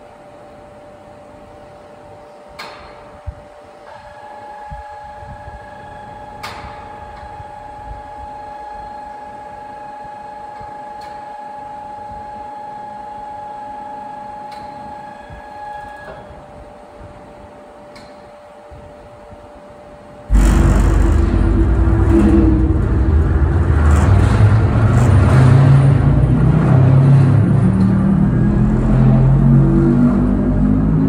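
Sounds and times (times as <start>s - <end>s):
background hum: 0.0s - 31.0s.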